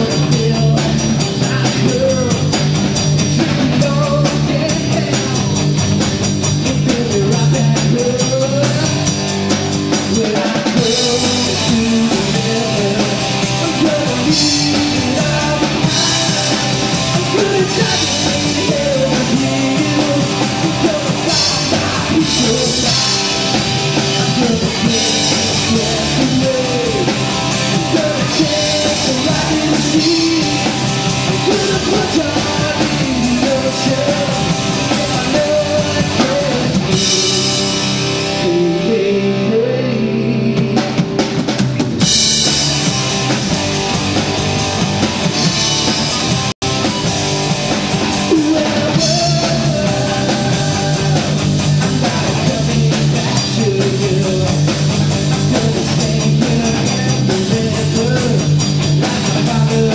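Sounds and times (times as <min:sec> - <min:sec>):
lead singer singing: 0:00.0 - 0:05.8, 0:06.5 - 0:41.4, 0:48.0 - 0:59.9
drum kit: 0:00.0 - 0:59.9
electric guitar: 0:00.0 - 0:59.9.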